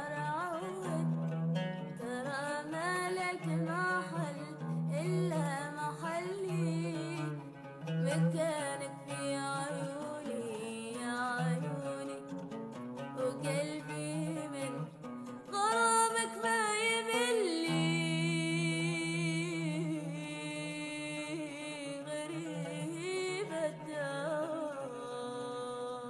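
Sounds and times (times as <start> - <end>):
person singing wordless melody: 1.9 - 12.3, 13.2 - 14.9, 15.5 - 26.0.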